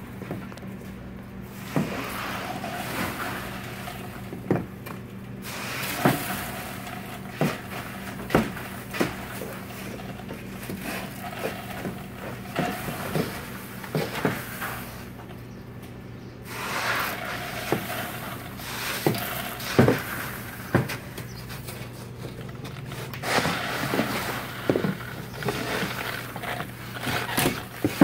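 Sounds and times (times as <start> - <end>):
ice rustling and shifting: 1.5 - 4.8, 5.4 - 15.4, 16.5 - 28.0.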